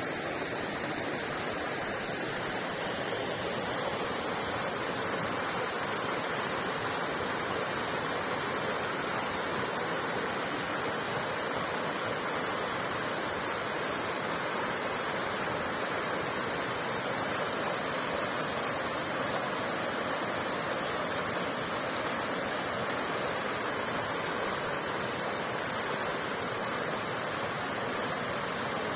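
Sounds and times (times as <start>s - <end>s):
rushing water roar: 0.0s - 28.9s.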